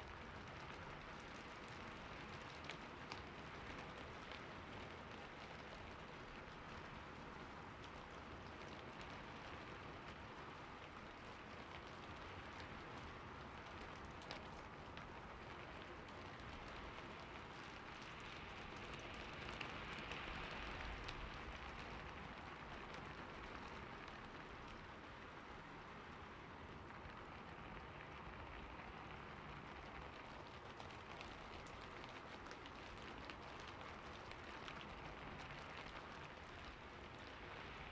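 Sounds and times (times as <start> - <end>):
rain on a roof: 0.0 - 37.9.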